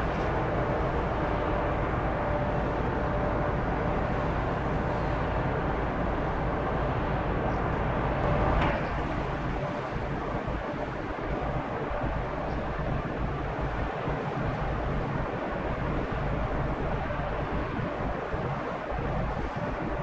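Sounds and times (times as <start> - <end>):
ship engines low rumble: 0.0 - 20.0.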